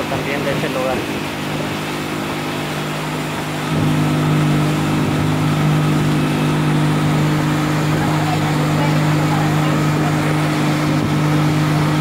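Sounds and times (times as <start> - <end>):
boat engine hum: 0.0 - 12.0
rushing water from hull: 0.0 - 12.0.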